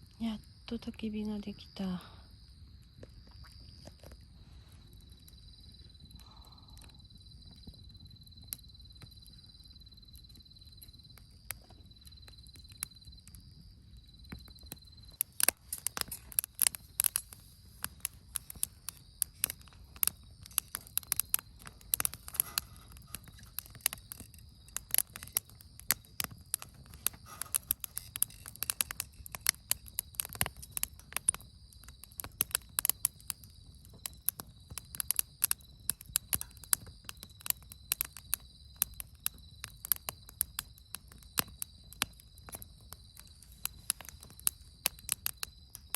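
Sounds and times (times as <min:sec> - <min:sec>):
campfire crackling and popping: 0:00.0 - 0:45.9
insects trilling: 0:00.0 - 0:45.9.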